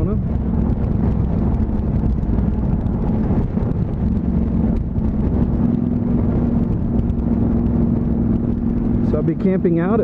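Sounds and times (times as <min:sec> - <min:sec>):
motorcycle engine cruising: 0:00.0 - 0:10.0
road rumble: 0:00.0 - 0:10.0
wind on microphone: 0:00.0 - 0:10.0.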